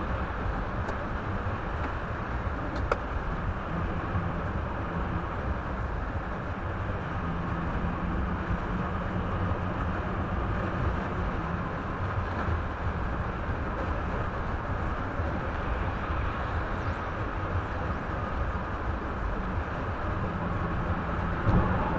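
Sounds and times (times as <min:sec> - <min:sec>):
low car engine hum: 0:00.0 - 0:21.9
road and tyre noise: 0:00.0 - 0:21.9.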